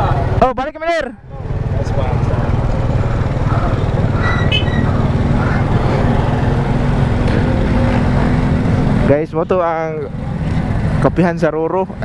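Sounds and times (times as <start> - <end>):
wind and road noise: 0.0 - 12.0
motorcycle engine running: 1.2 - 12.0.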